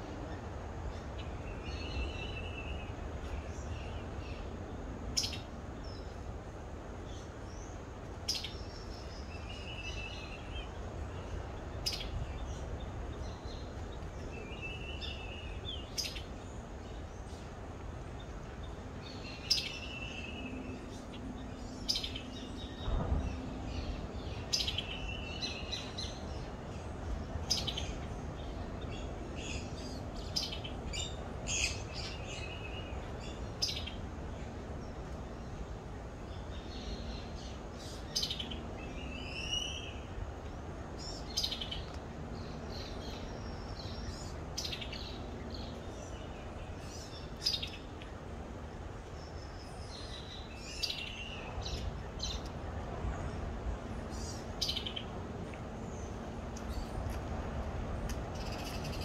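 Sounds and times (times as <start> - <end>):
steady background hiss: 0.0 - 59.0
birds chirping: 7.1 - 59.0.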